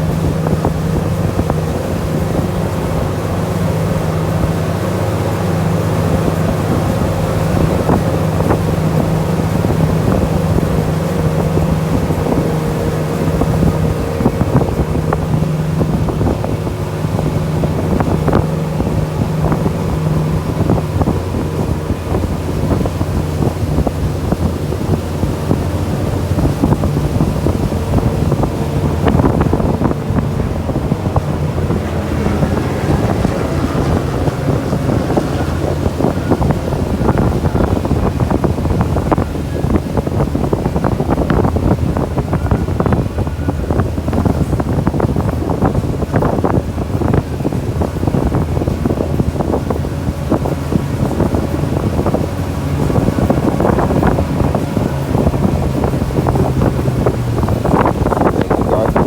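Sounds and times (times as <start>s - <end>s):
boat engine running: 0.0s - 59.0s
wind buffeting microphone: 0.0s - 59.0s.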